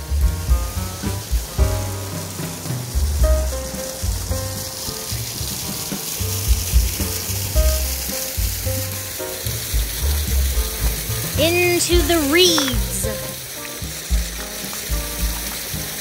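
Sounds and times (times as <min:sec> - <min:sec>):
waterfall splashing into pond: 0:00.0 - 0:16.0.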